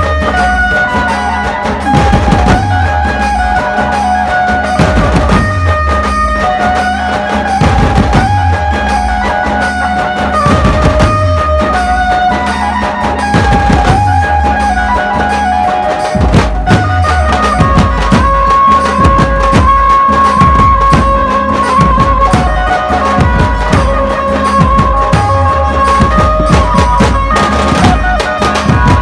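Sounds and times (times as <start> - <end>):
large drums beating: 0.0 - 29.0.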